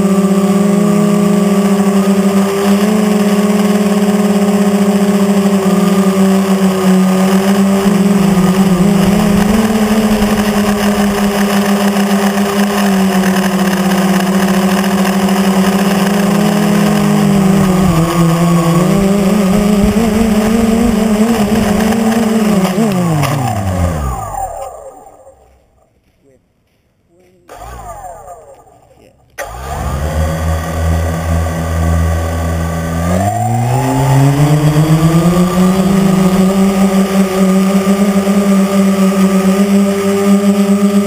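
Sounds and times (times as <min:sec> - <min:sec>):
drone propellers buzzing: 0:00.0 - 0:25.9, 0:27.3 - 0:41.0.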